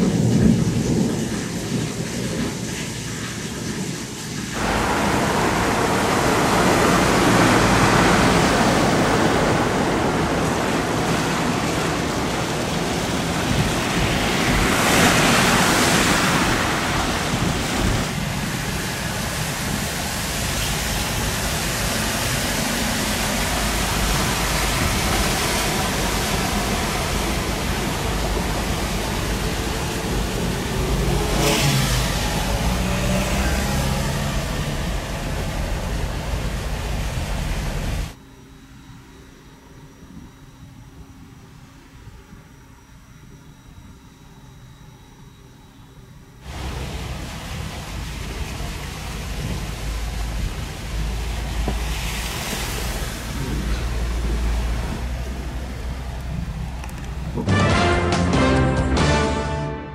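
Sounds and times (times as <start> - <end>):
tyres splashing through water: 0.0 - 38.2, 46.4 - 59.6
low engine hum: 4.5 - 57.8.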